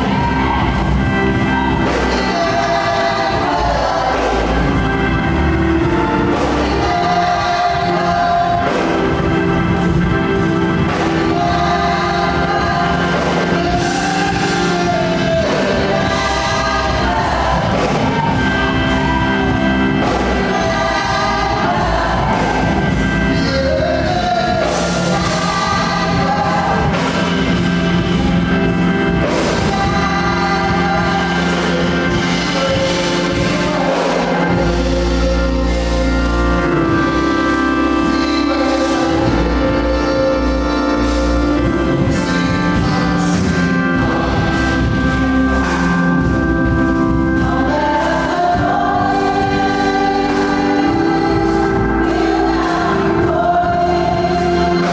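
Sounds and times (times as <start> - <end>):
gospel choir singing: 0.0 - 54.9
instrumental accompaniment: 0.0 - 54.9.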